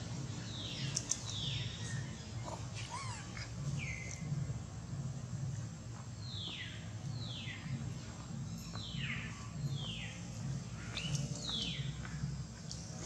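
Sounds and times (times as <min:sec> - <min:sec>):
low pulsing hum: 0:00.0 - 0:13.0.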